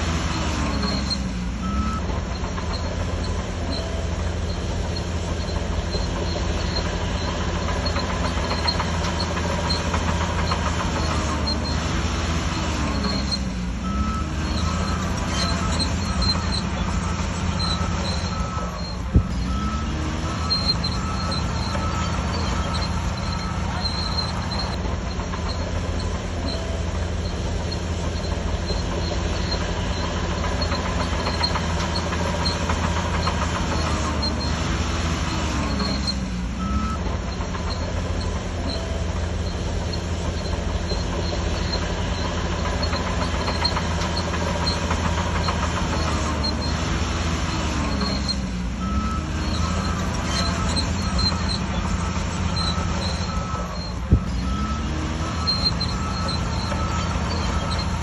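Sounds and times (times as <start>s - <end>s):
bulldozer diesel engine running: 0.0s - 58.0s
metallic track running noise: 0.0s - 58.0s.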